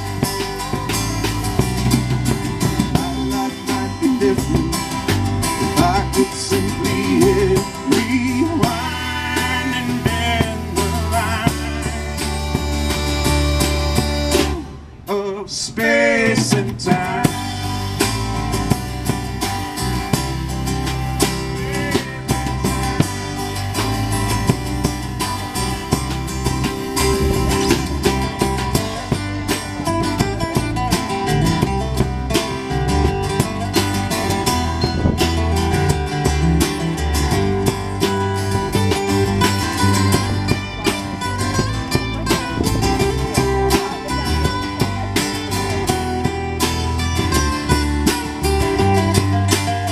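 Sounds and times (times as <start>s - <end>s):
sliding guitar notes: 0.0s - 15.2s, 15.8s - 49.9s
country band playing: 0.0s - 49.9s.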